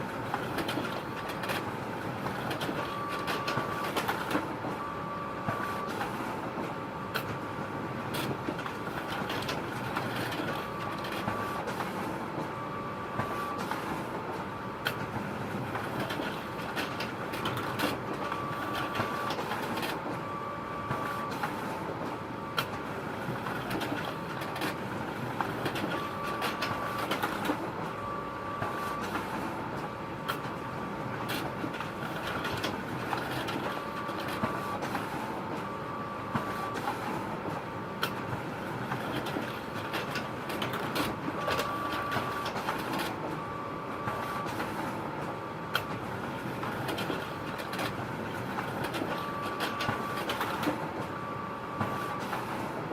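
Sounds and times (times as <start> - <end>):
photocopier humming: 0.0 - 52.9.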